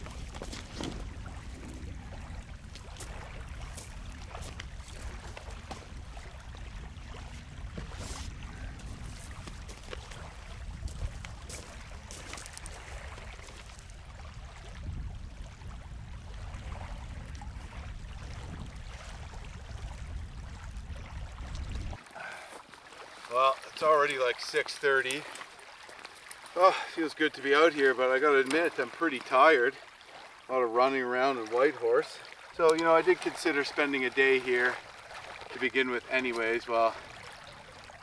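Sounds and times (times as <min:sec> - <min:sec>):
water lapping at shore: 0:00.0 - 0:38.0.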